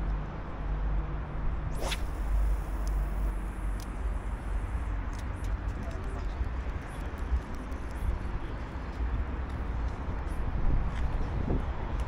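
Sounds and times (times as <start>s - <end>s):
wind buffeting microphone: 1.5s - 12.0s.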